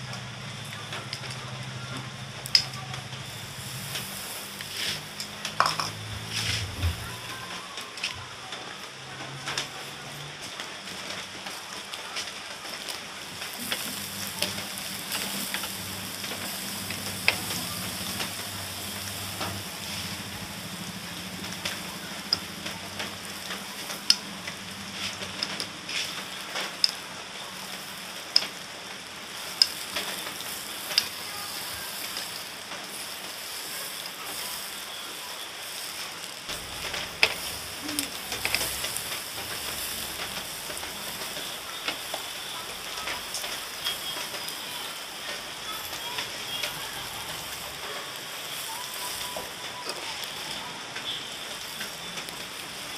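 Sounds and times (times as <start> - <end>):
skewers sizzling on a grill: 0.0 - 52.9.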